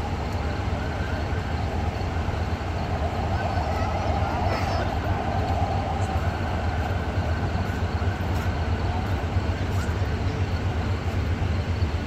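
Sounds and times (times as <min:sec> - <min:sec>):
locomotive engine drone: 0:00.0 - 0:12.0
train rumble: 0:00.0 - 0:12.0.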